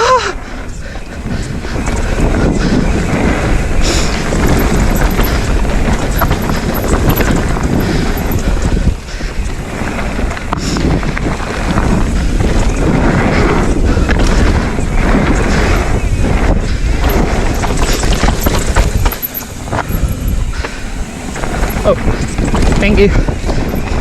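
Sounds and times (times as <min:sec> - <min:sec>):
bike tyre noise: 0:00.0 - 0:24.0
wind on microphone: 0:00.0 - 0:24.0
bike knocks and rattles: 0:01.1 - 0:24.0.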